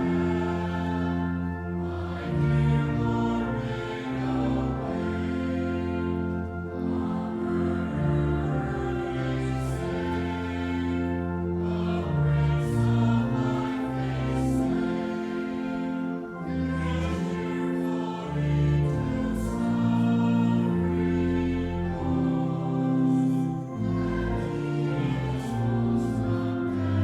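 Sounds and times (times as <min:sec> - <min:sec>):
sustained accompanying chords: 0:00.0 - 0:27.0
voices singing a hymn: 0:00.0 - 0:27.0.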